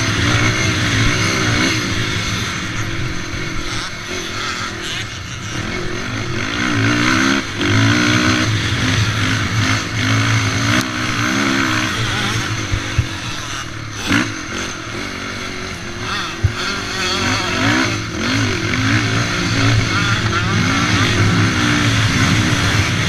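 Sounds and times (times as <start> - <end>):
quad engine revving: 0.0 - 23.0.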